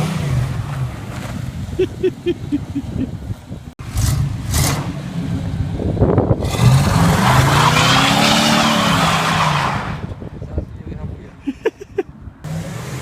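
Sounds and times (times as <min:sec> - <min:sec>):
truck engine revving: 0:00.0 - 0:10.1, 0:12.4 - 0:13.0.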